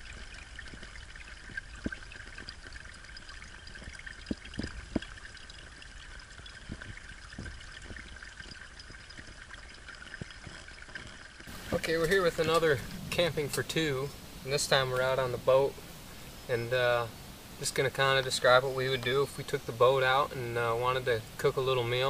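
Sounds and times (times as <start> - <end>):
water trickling into metal cup: 0.0 - 22.0.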